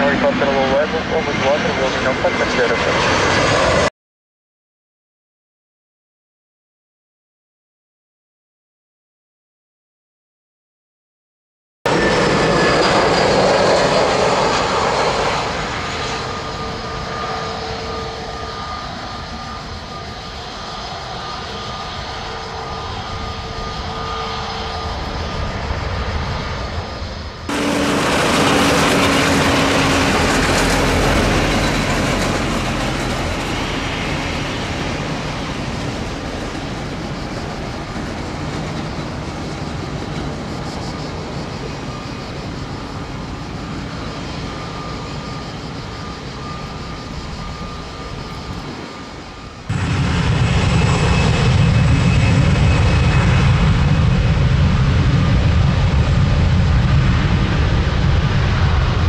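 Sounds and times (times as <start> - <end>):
deep jet engine rumble: 0.0 - 3.9, 11.9 - 59.0
jet engines whining: 0.0 - 3.9, 11.9 - 59.0.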